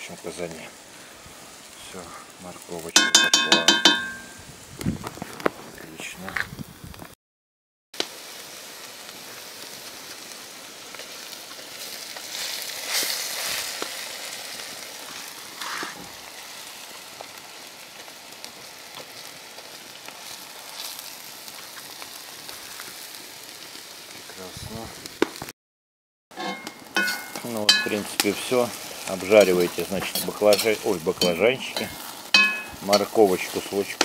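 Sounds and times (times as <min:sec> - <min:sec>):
vegetables sizzling in hot oil: 0:00.0 - 0:05.1, 0:08.0 - 0:25.5, 0:26.4 - 0:34.0.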